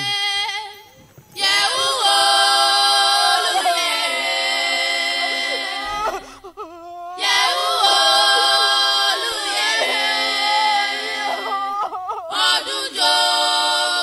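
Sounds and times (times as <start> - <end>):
voices singing long notes: 0.0 - 14.0.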